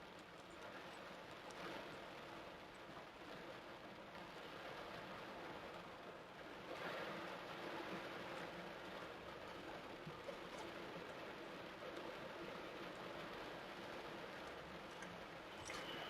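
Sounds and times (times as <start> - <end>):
torrential rain: 0.0 - 16.0.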